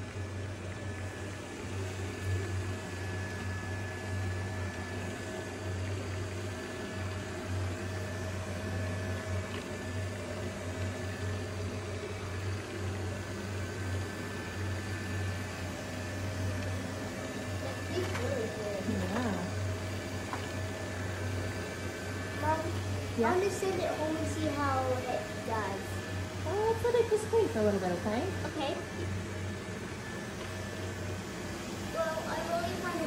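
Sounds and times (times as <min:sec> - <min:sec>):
robot vacuum motor hum: 0:00.0 - 0:33.0.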